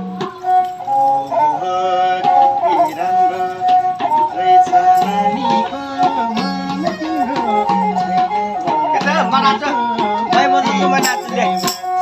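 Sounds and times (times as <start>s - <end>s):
sarangi sliding folk melody: 0.0s - 12.0s.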